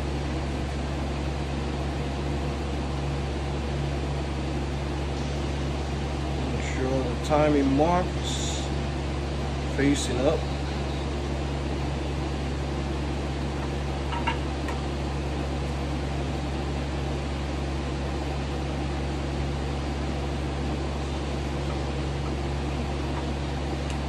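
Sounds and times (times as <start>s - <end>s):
mechanical hum with hiss: 0.0s - 24.0s.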